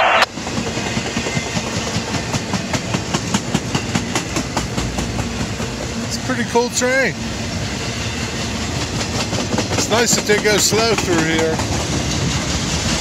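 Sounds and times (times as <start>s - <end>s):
loud rush of noise: 0.0s - 13.0s
freight train rumble: 0.1s - 13.0s
train wheels clicking over rail joints: 0.3s - 13.0s.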